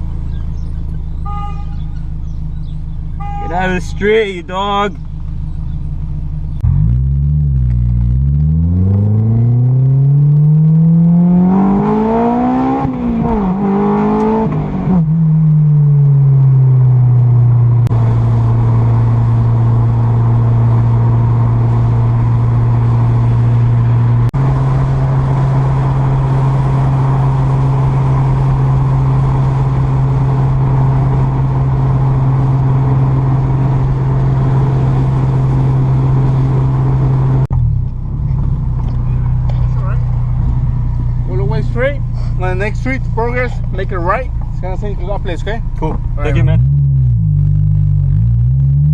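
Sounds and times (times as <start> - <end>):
car engine accelerating: 4.9 - 48.9.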